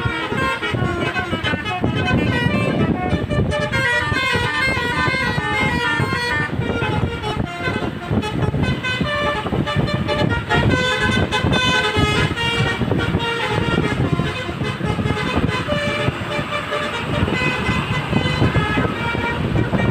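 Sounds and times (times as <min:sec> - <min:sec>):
engine and traffic rumble: 0:00.0 - 0:19.9
musical vehicle horns melody: 0:00.0 - 0:19.9.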